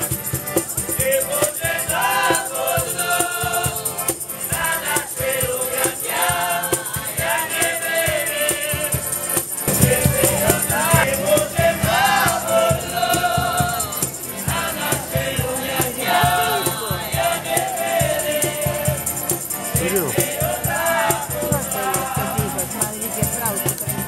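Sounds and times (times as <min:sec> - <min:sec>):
accordion: 0:00.0 - 0:24.0
cajon beat: 0:00.0 - 0:24.0
strummed acoustic guitars: 0:00.0 - 0:24.0
men singing together: 0:00.8 - 0:24.0.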